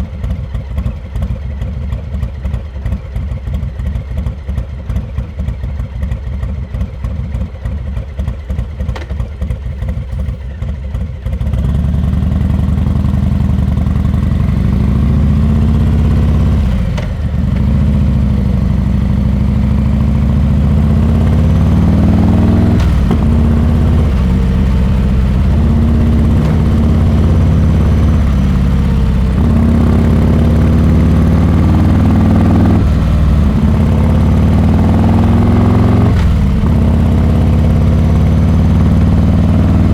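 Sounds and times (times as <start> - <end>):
motorcycle engine idling and accelerating: 0.0 - 39.9.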